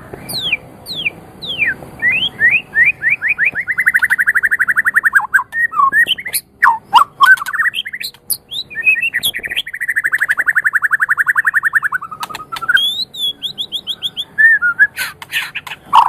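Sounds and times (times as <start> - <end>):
bird singing trills and whistles: 0.0 - 16.0.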